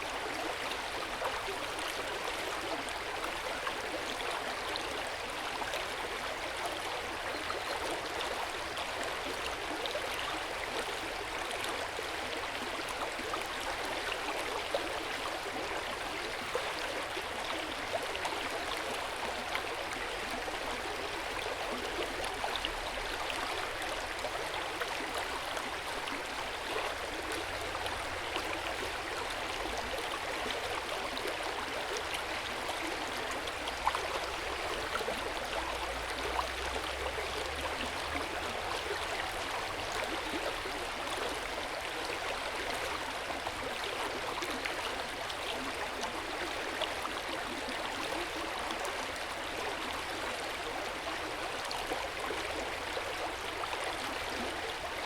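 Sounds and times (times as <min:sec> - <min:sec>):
hot spring water flowing: 0:00.0 - 0:55.0.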